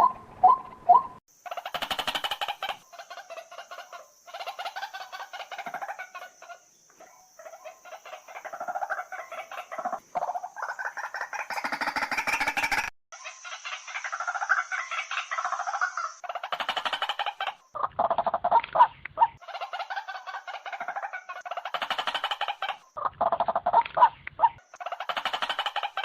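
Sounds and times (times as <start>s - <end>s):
bird croaking calls: 0.0s - 26.0s.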